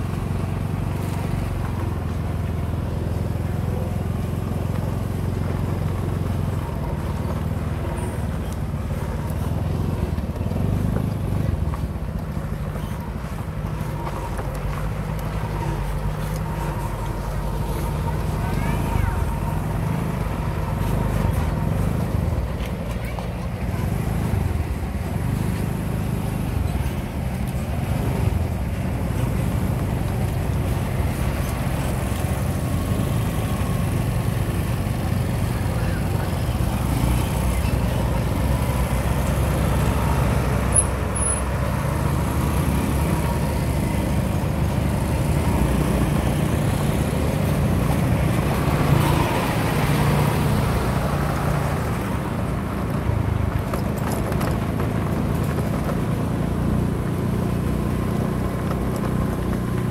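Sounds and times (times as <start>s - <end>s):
tyres rumbling on dirt road: 0.0s - 59.9s
vehicle engine running: 0.0s - 59.9s
wind: 0.0s - 59.9s.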